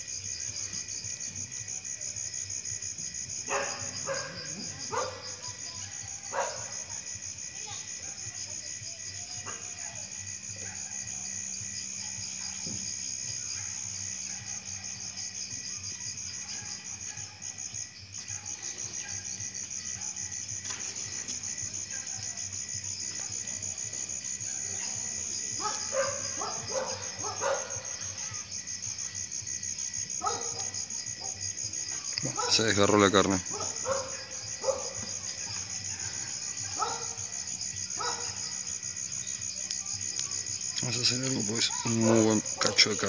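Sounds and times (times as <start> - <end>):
night insects trilling: 0.0 - 43.0.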